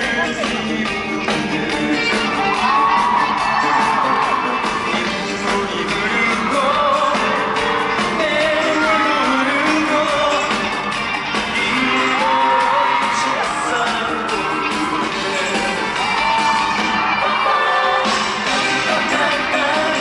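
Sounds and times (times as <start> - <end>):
live pop song with singing: 0.0 - 20.0.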